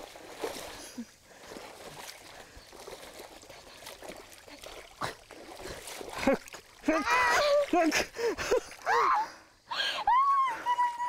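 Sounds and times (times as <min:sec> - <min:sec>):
stream water running: 0:00.0 - 0:11.0
water splashing and sloshing: 0:00.0 - 0:11.0.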